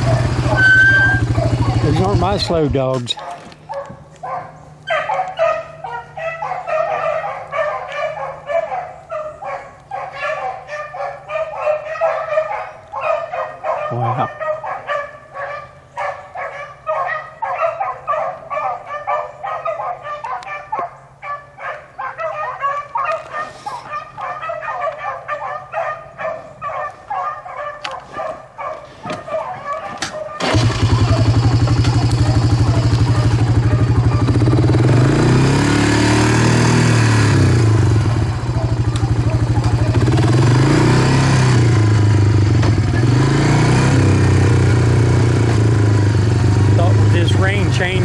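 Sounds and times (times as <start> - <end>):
hounds baying: 0.0 - 35.7, 36.3 - 48.0.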